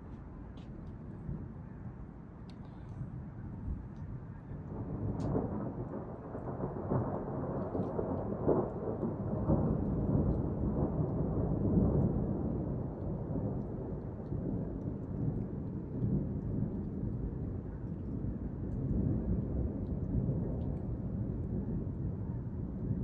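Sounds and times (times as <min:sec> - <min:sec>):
thunder rumbling: 0:03.2 - 0:23.0.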